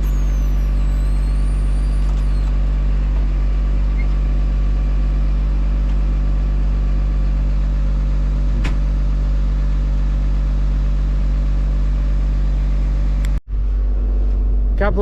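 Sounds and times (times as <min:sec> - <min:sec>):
farm machine engine humming: 0:00.0 - 0:15.0.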